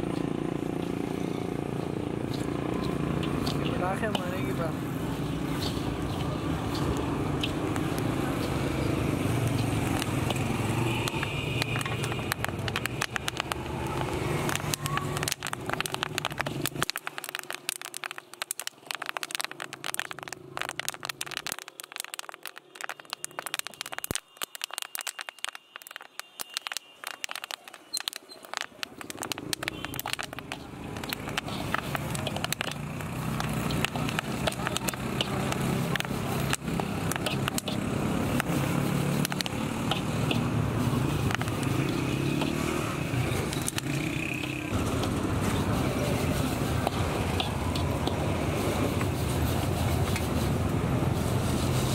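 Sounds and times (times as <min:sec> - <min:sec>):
kernels crackling: 0:00.3 - 0:51.9.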